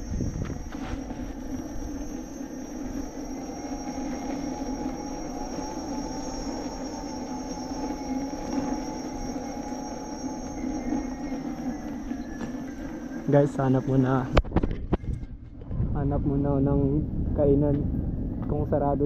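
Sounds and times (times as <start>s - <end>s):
electric motor whining: 0.0s - 15.3s
wind rumble on microphone: 0.0s - 19.0s.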